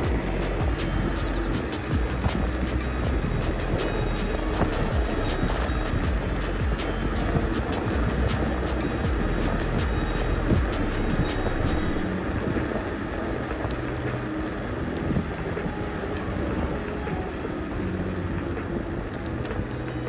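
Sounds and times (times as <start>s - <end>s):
wind rushing: 0.0s - 17.9s
bicycle road noise: 0.0s - 20.0s.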